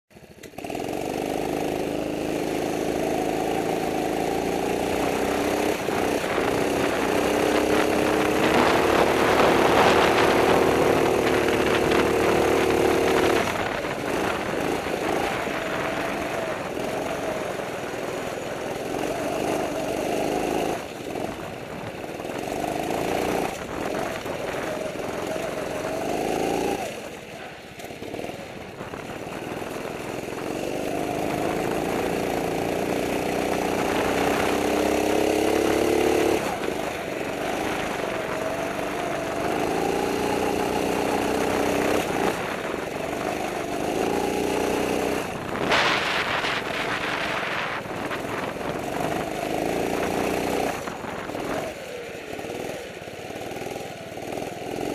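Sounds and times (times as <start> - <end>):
kart engine revving: 0.2 - 54.9.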